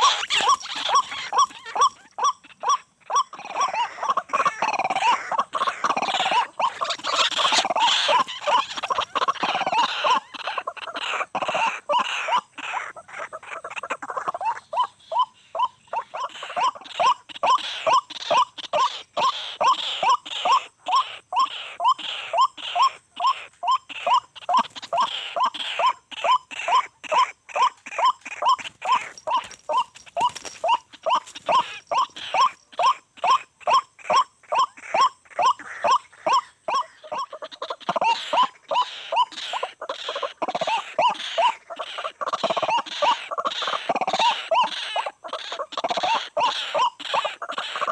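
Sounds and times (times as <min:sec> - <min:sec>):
waterhen calling: 0:00.0 - 0:15.3, 0:16.2 - 0:47.9.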